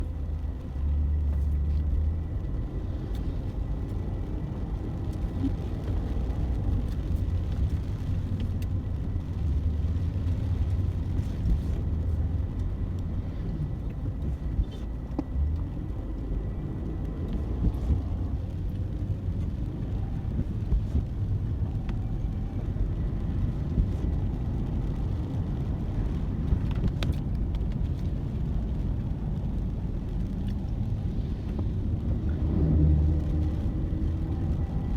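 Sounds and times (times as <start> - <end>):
motor vehicle rumbling on road: 0.0 - 34.9.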